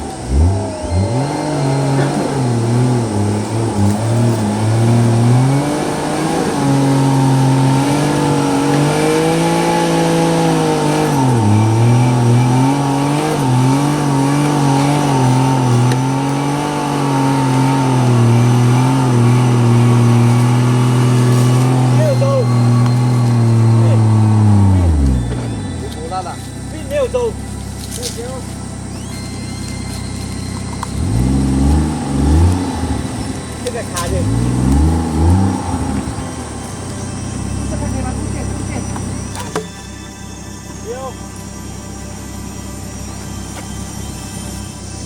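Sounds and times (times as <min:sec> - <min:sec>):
engine revving under load: 0:00.0 - 0:45.0.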